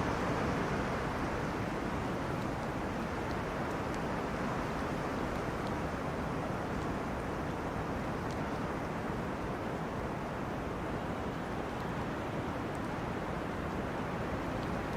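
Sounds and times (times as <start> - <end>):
wind rushing through trees: 0.0 - 14.9.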